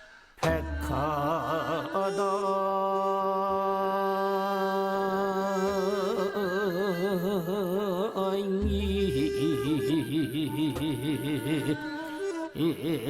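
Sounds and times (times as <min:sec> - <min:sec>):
man singing long note: 0:00.4 - 0:13.0.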